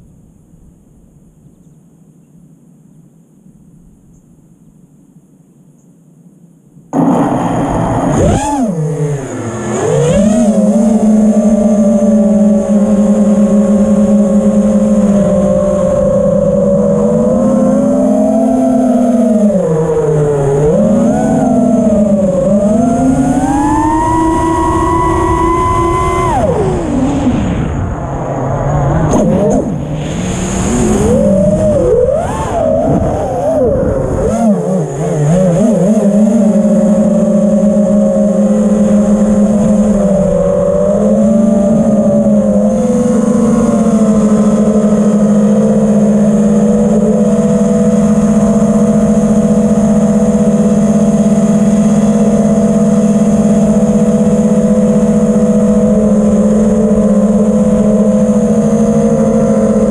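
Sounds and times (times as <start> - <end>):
drone motors whining: 6.9 - 59.9.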